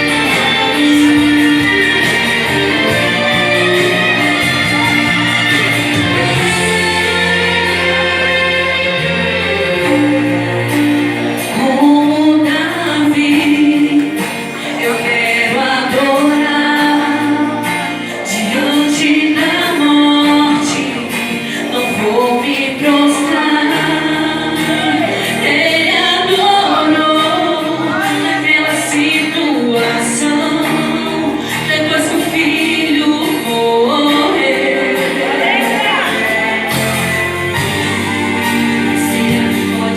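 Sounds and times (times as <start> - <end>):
instrumental backing with bass: 0.0 - 39.9
women singing gospel song: 0.0 - 39.9.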